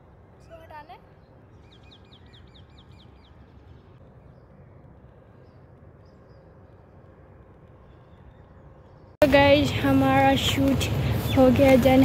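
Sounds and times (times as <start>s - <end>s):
small birds chirping: 0.3s - 12.0s.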